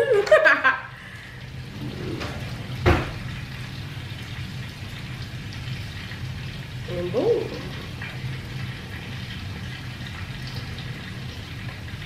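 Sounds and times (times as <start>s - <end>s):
chicken sizzling in a frying pan: 0.1s - 12.0s.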